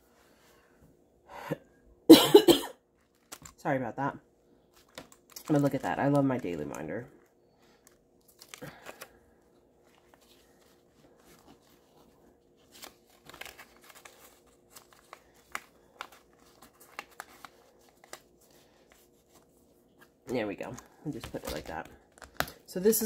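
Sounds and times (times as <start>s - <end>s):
plastic envelopes crinkling: 2.9s - 3.6s, 4.7s - 22.7s.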